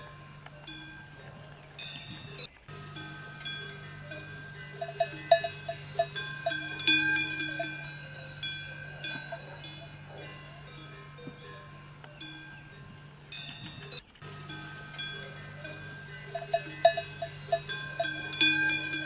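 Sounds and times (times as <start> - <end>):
metal bells clinking: 0.0 - 19.0
steady low hum: 0.0 - 19.0.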